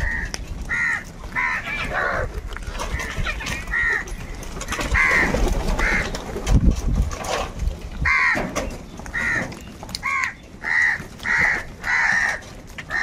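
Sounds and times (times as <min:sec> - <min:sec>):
crows cawing: 0:00.0 - 0:06.1, 0:08.0 - 0:08.5, 0:09.1 - 0:13.0.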